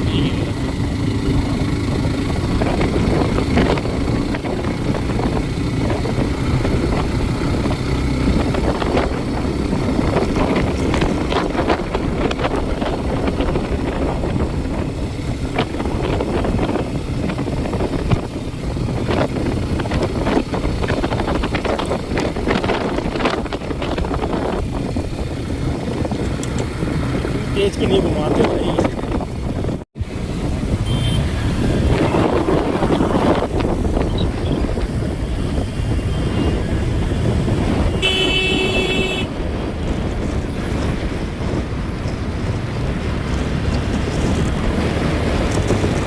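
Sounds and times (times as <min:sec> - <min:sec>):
vehicle low rumble: 0:00.0 - 0:46.0
wind buffeting microphone: 0:00.0 - 0:46.0.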